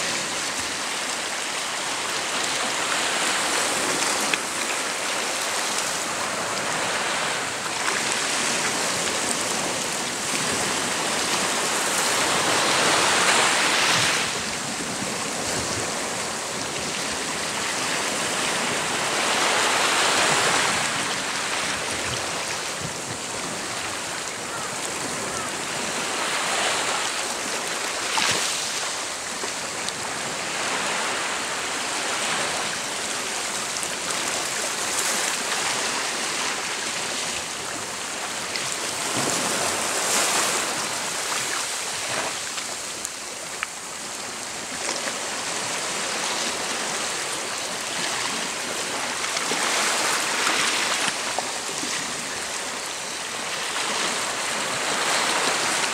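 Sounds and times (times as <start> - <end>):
small waves washing on shore: 0.0 - 55.9.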